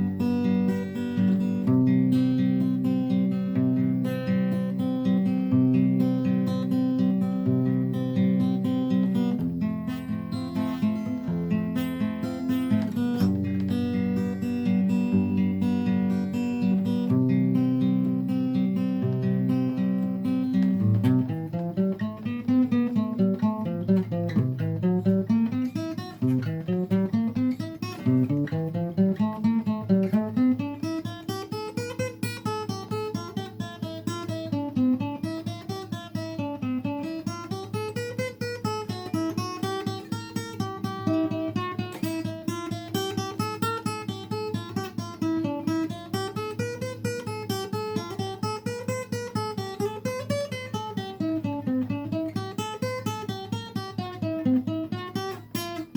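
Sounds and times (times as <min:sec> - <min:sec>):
acoustic guitar picking: 0:00.0 - 0:55.9.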